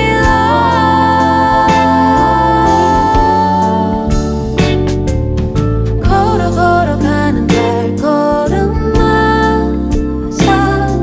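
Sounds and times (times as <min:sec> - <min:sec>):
pop song chords over bass: 0:00.0 - 0:11.0.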